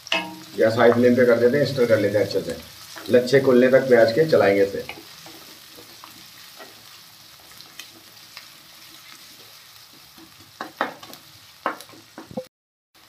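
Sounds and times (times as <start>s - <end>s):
onions sizzling in hot oil: 0.0s - 12.4s.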